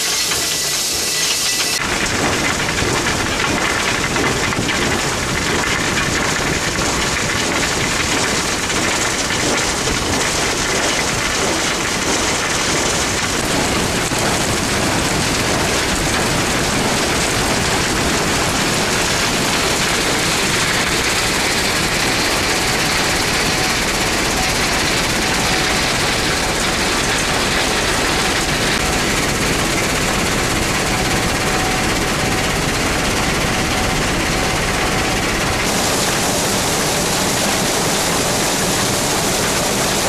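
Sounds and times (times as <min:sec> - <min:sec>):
machinery running: 0:00.0 - 0:40.0
water and ore rushing: 0:00.0 - 0:40.0.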